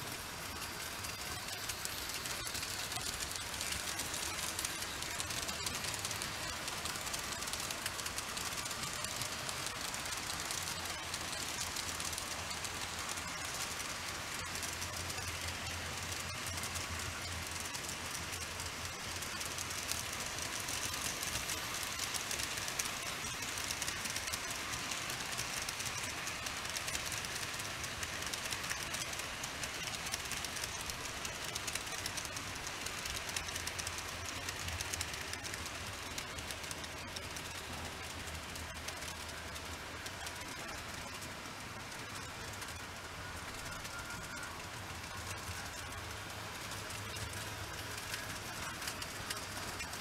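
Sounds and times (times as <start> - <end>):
model train wheels rattling: 0.0 - 50.0.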